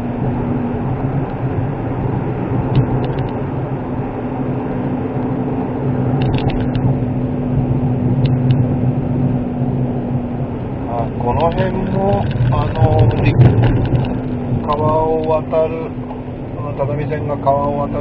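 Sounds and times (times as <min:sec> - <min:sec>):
car engine humming: 0:00.0 - 0:18.0
tyre and road noise: 0:00.0 - 0:18.0.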